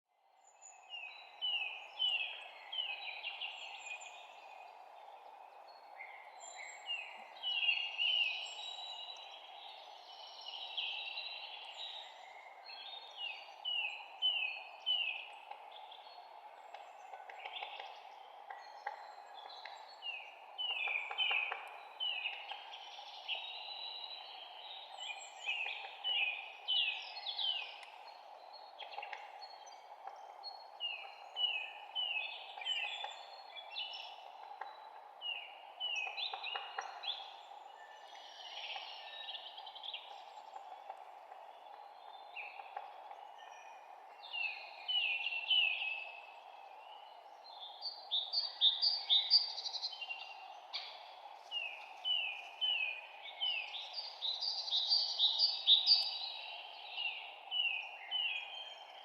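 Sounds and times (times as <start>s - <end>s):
songbirds chirping: 0.1s - 59.0s
steady background hiss: 0.5s - 59.0s.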